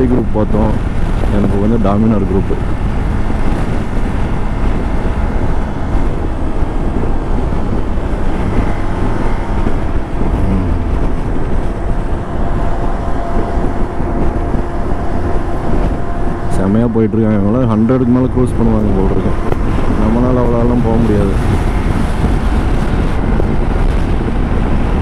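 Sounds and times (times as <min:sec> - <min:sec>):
motorcycle engine running: 0:00.0 - 0:25.0
wind rush on microphone: 0:00.0 - 0:25.0.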